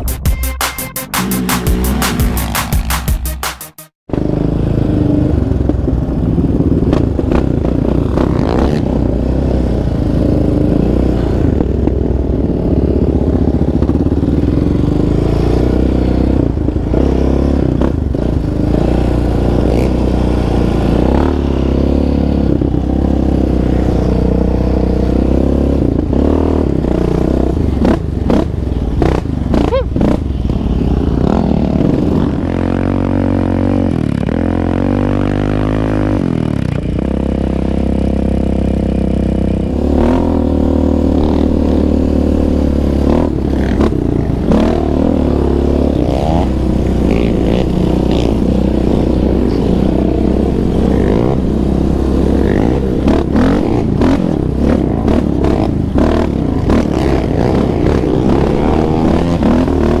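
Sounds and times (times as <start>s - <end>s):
quad engine revving: 1.2s - 3.2s, 4.1s - 60.0s.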